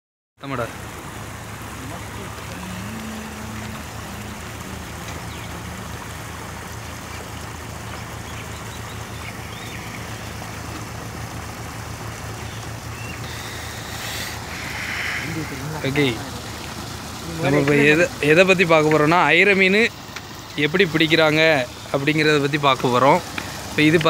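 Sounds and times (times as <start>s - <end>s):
constant rushing noise: 0.4s - 24.0s
low engine hum: 0.4s - 24.0s
higher hum: 0.8s - 22.3s.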